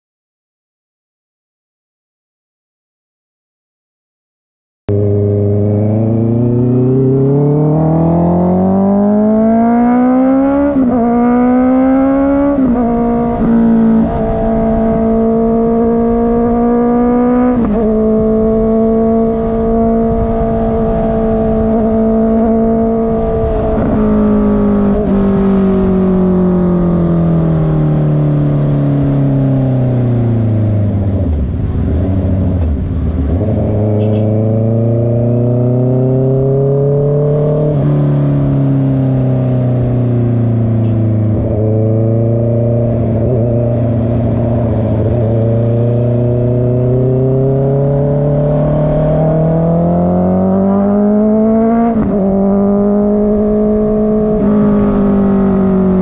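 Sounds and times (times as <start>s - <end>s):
motorcycle engine revving: 4.9s - 56.0s.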